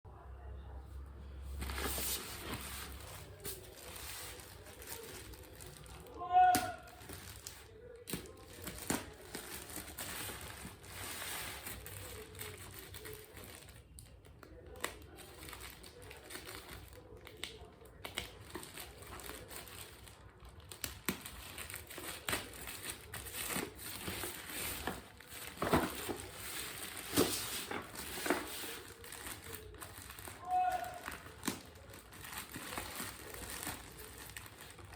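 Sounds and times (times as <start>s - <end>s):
packaging crinkling and rustling: 1.5s - 34.9s.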